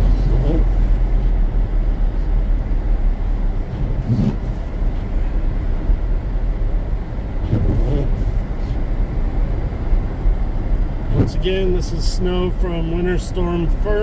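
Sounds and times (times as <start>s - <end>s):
car driving on snowy road: 0.0s - 14.0s.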